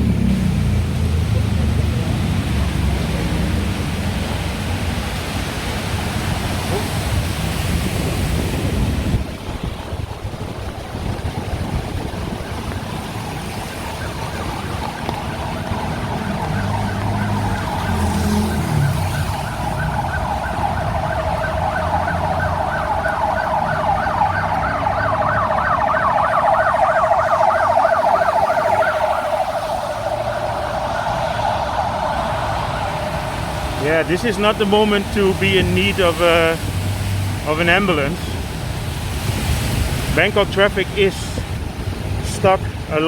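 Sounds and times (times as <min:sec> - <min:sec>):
ambulance siren warbling: 0:00.0 - 0:38.7, 0:39.8 - 0:43.0
traffic engines humming: 0:00.0 - 0:43.0.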